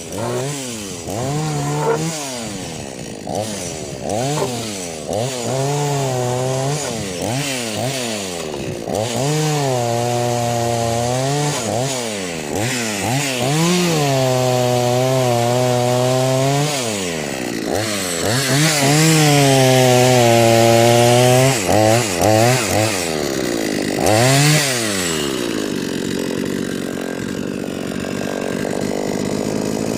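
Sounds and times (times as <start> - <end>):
chainsaw revving and idling: 0.0 - 29.9.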